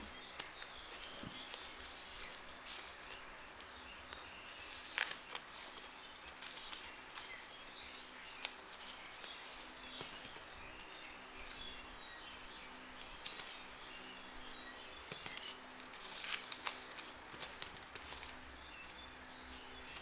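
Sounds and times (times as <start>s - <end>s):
birds chirping: 0.0s - 20.0s
faint low hum: 0.0s - 20.0s.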